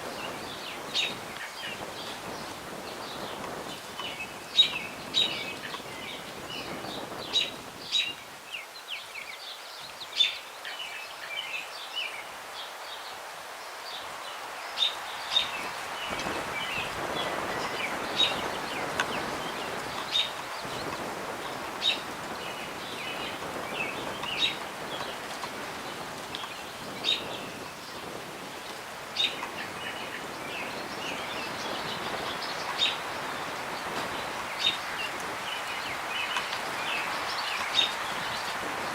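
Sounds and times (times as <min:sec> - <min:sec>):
breeze through tree branches: 0:00.0 - 0:38.9
small songbirds chirping: 0:00.0 - 0:38.9.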